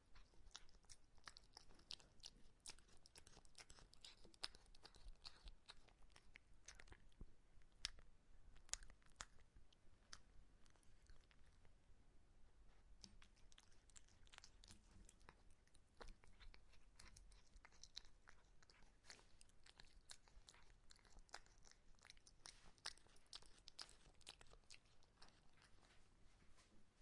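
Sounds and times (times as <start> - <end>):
cat chewing crunches: 0.0 - 11.7, 12.7 - 26.0.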